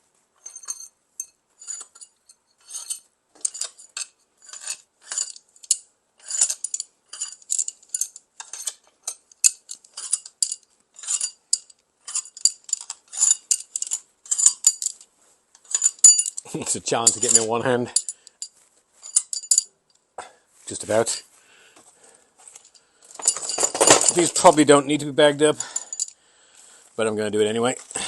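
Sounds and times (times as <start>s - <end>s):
metal bolts clinking: 0.4s - 19.7s, 22.4s - 26.2s.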